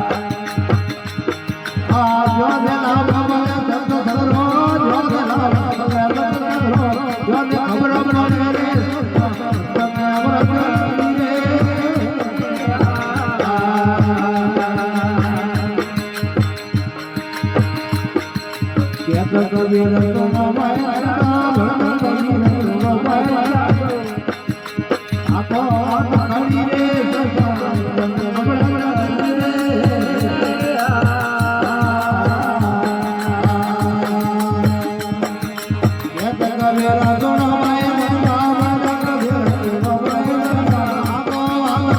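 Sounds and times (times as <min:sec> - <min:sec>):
hand drum beat: 0:00.0 - 0:41.9.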